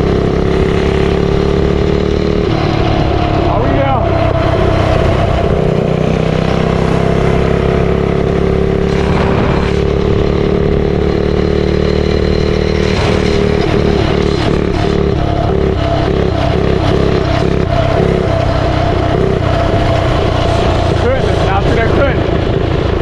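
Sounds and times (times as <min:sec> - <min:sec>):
mini bike engine running: 0:00.0 - 0:23.0.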